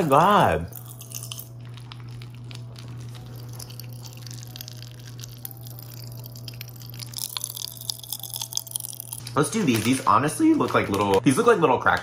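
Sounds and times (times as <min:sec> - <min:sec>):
popping candy crackling in mouth: 0:00.0 - 0:12.0.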